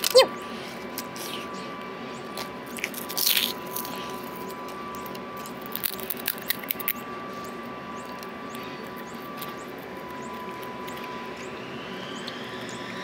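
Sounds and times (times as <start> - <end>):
crunchy chewing: 0.0 - 11.5.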